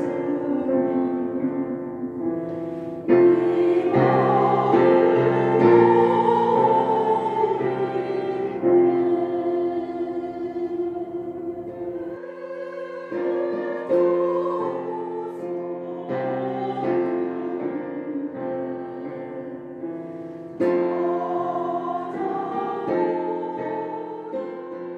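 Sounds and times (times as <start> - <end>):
piano chords: 0.0 - 24.9
slow lyrical melody: 0.0 - 24.9.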